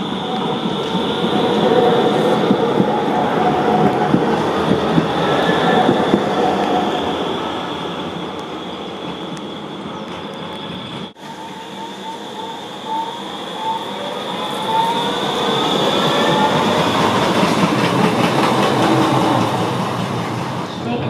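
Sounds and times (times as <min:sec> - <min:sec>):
tram rolling past: 0:00.0 - 0:21.0
tram wheels squealing: 0:00.0 - 0:21.0.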